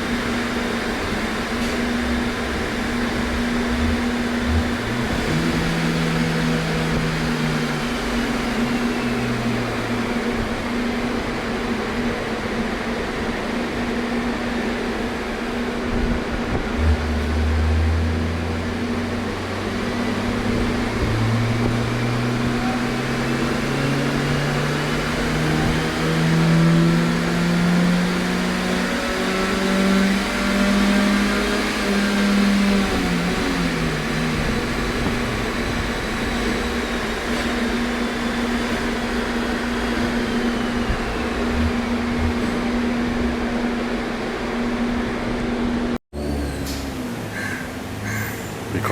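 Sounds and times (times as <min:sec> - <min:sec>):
car engine revving: 0:00.0 - 0:12.0, 0:16.2 - 0:48.1.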